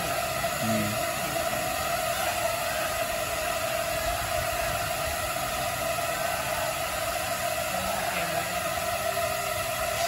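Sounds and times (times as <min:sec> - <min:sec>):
drone propellers whirring: 0:00.0 - 0:10.0.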